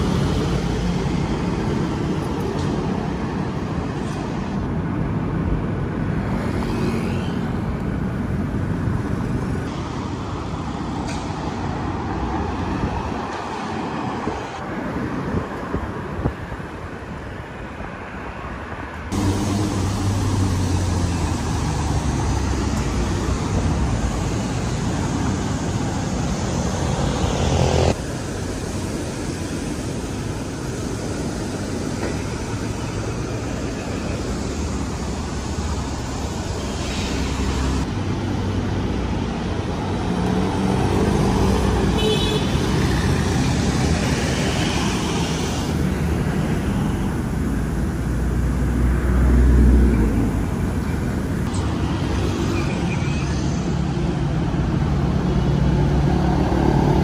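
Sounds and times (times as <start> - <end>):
cars passing by: 0.0 - 57.0.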